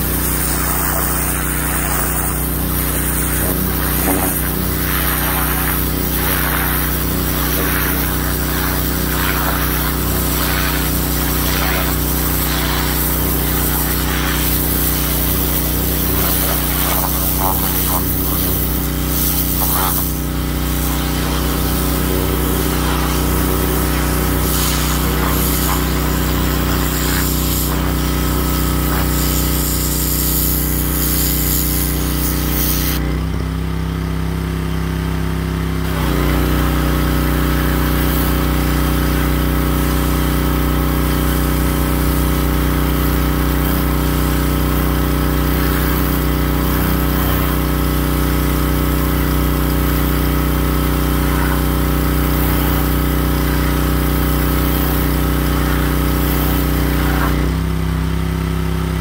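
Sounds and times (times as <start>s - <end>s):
water spray hissing: 0.0s - 33.0s, 36.0s - 57.6s
pressure washer engine running: 0.0s - 59.0s.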